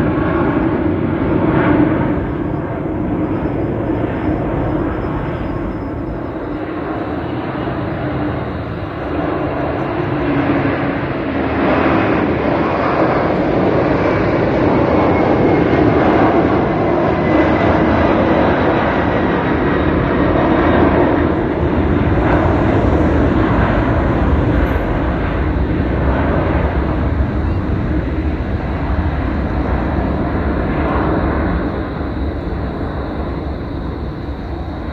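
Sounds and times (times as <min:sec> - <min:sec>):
faint high whine: 0:00.0 - 0:34.9
jet engine roar: 0:00.0 - 0:34.9.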